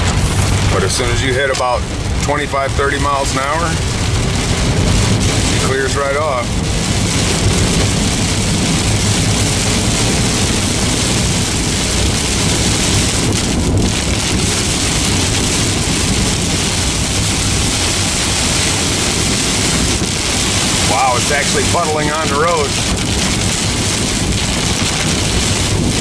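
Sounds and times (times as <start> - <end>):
heavy rain on car roof: 0.0 - 26.0
road and engine rumble: 0.0 - 26.0.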